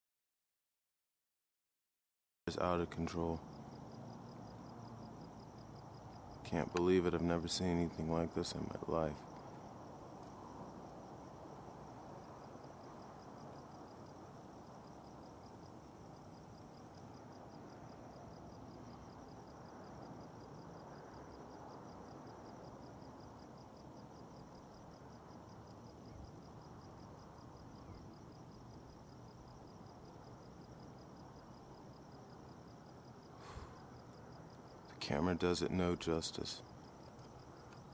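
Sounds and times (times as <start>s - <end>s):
crickets chirping: 2.5s - 37.9s
faint steady hiss: 2.5s - 37.9s.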